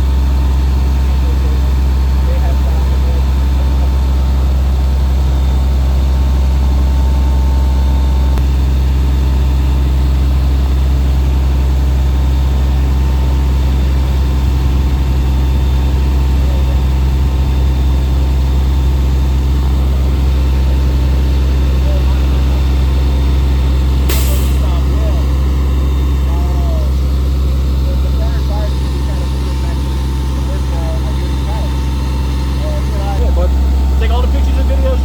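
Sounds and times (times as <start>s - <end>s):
fire engine engine droning: 0.0s - 35.0s.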